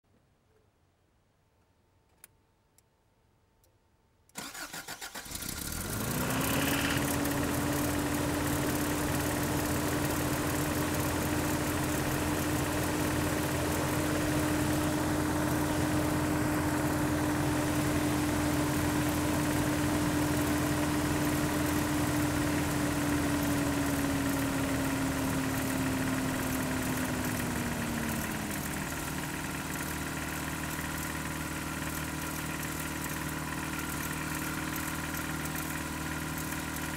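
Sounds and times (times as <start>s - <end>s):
car engine cranking and starting: 4.4s - 36.9s
car engine idling: 4.4s - 36.9s.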